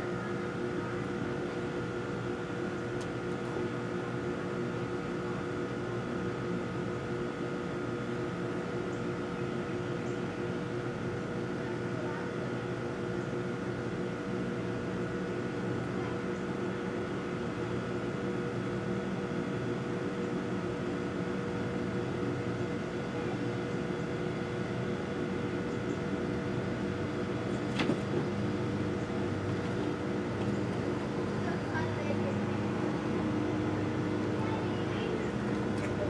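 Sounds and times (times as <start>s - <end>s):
mechanical hum: 0.0s - 36.0s.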